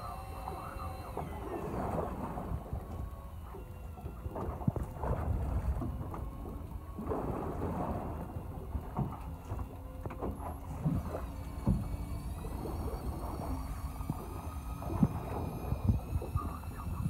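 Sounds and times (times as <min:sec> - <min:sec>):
water sounds: 0:00.0 - 0:17.0
wind rumbling on microphone: 0:00.0 - 0:17.0.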